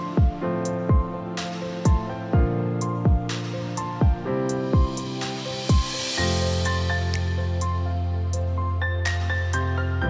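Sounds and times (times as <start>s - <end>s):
mellow electronic music: 0.0s - 10.0s.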